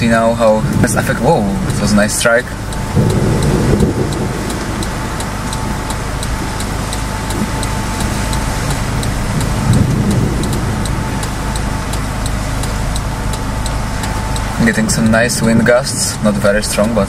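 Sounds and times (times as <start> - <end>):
car engine running: 0.0 - 17.0
wind gusting around a car: 0.0 - 17.0.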